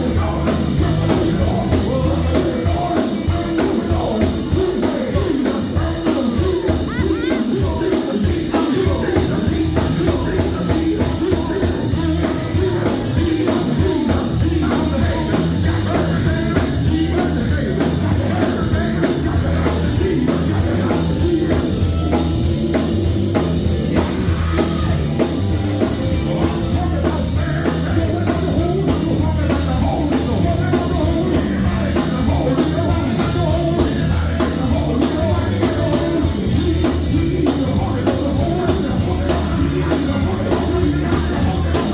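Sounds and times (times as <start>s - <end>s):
gospel band playing: 0.0s - 41.9s
person singing: 0.0s - 41.9s.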